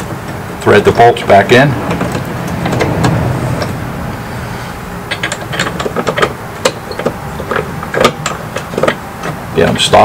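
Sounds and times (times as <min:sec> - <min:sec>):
low steady rumble: 0:00.0 - 0:09.6.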